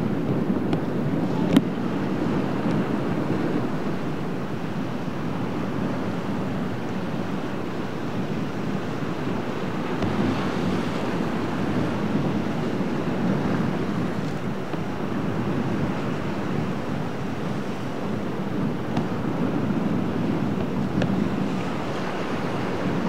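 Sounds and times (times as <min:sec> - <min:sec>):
waves breaking in surf: 0:00.0 - 0:23.0
wind buffeting microphone: 0:00.0 - 0:23.0.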